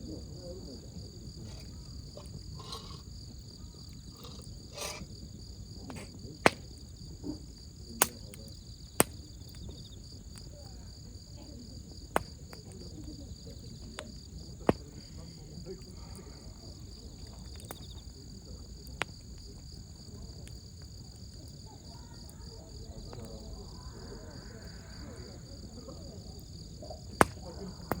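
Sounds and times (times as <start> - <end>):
campfire burning and popping: 0.0 - 24.0, 25.6 - 28.0
crickets chirping: 0.0 - 28.0.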